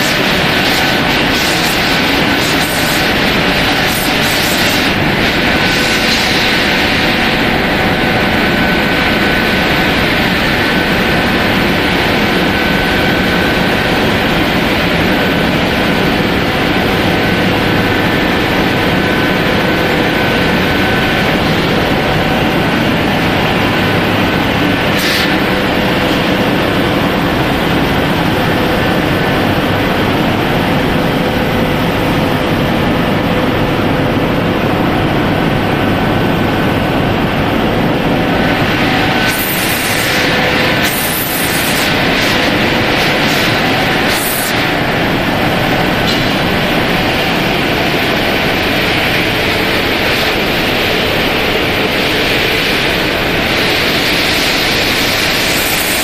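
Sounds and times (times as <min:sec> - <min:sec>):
industrial machinery running: 0:00.0 - 0:56.0.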